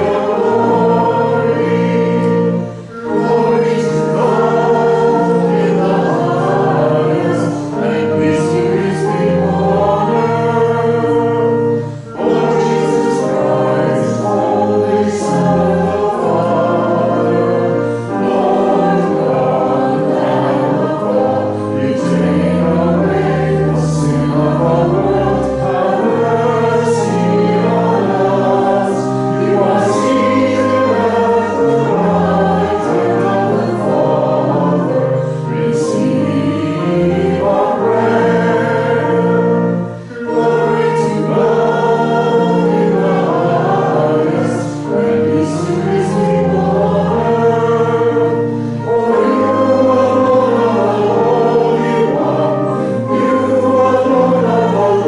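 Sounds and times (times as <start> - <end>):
organ accompaniment: 0.0 - 55.0
voices singing a hymn: 0.0 - 55.0.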